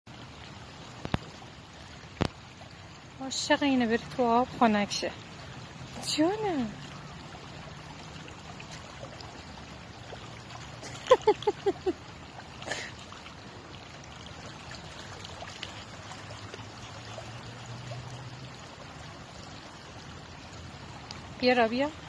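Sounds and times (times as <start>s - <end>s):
water trickling over stones: 0.1s - 22.0s.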